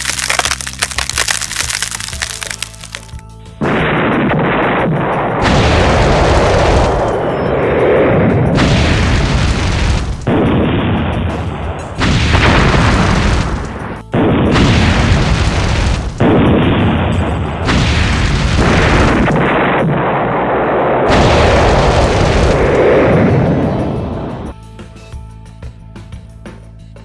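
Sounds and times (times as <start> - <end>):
explosions and fire blasts: 0.0 - 24.5.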